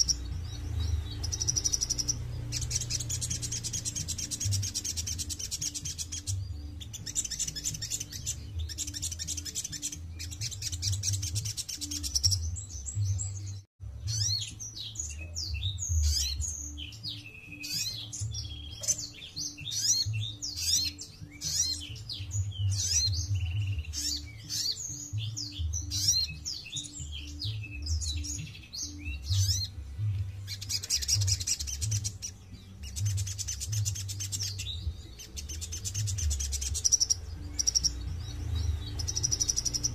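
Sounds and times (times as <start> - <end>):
bird singing buzzy trills: 0.0 - 39.9.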